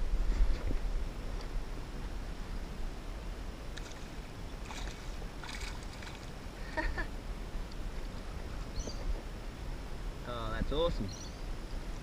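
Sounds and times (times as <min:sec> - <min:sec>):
water sounds: 0:00.0 - 0:11.0
low wind rumble: 0:00.0 - 0:12.0.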